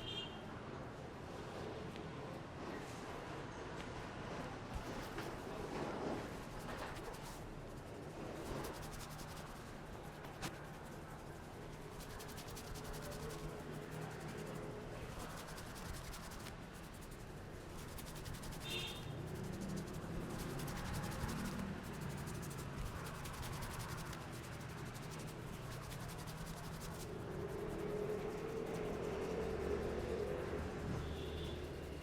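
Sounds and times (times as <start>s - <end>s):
hands rubbing hair and scalp: 4.8s - 32.0s.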